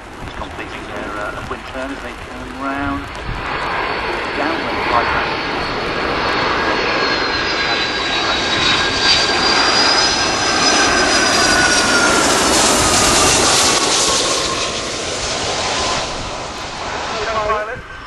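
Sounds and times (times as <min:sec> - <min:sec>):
jet airliner flying past: 0:00.0 - 0:18.0.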